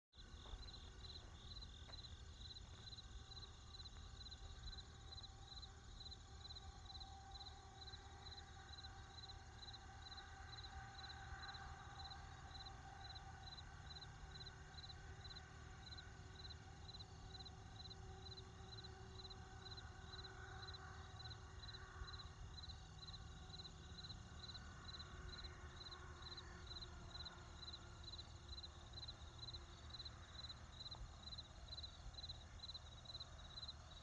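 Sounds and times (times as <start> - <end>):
crickets chirping: 0.2 - 34.0.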